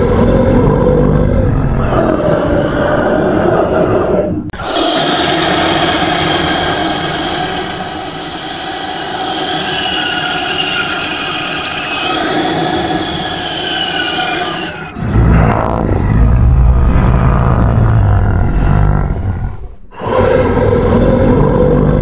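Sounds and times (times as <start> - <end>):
shrill monster sound effect: 0.0 - 22.0.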